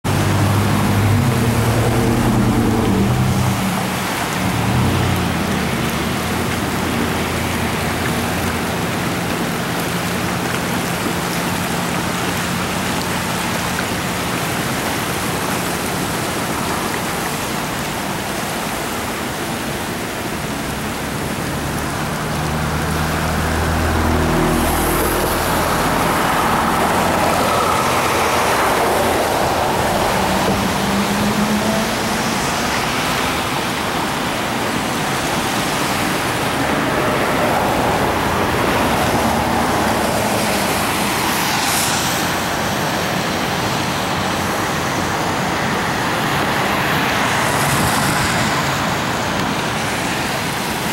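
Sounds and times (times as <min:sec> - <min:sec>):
flooded creek rushing: 0:00.0 - 0:50.9
low hum of road traffic: 0:00.0 - 0:50.9.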